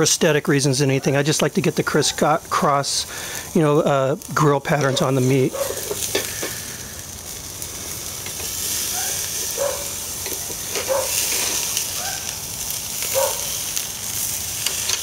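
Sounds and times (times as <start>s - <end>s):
steaks sizzling on a grill: 0.0s - 15.0s
tongs scraping grill grate: 0.5s - 15.0s.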